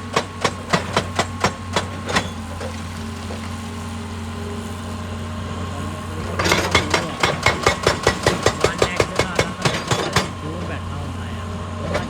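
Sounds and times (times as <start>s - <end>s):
hydraulic rock breaker hammering: 0.0s - 3.9s, 5.8s - 12.0s
excavator engine running: 0.0s - 12.0s.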